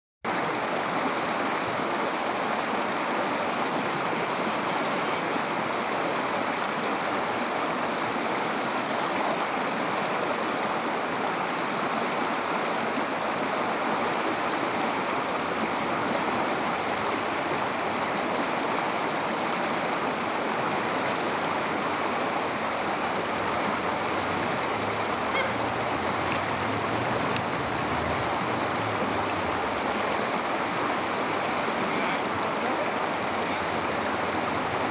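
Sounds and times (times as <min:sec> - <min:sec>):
river water rushing over rocks: 0:00.3 - 0:34.9.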